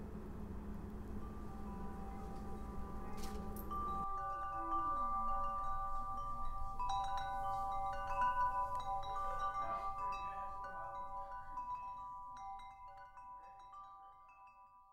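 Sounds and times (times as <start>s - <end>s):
chimes ringing: 1.0s - 14.9s.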